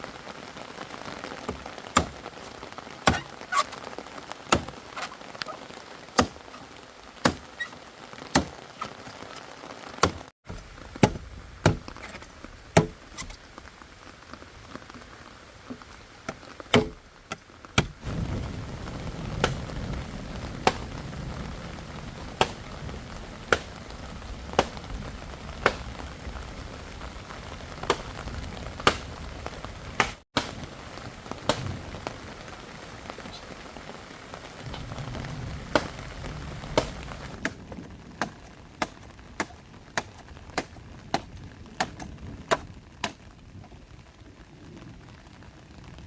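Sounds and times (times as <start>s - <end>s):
steady rain: 0.0s - 46.0s.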